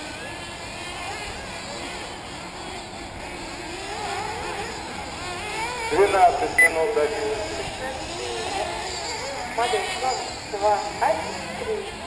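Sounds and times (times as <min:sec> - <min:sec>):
rc buggy engines whining: 0:00.0 - 0:12.0.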